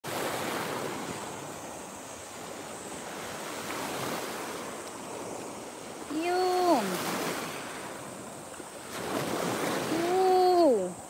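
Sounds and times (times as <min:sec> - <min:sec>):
small waves washing on sand: 0:00.0 - 0:11.0.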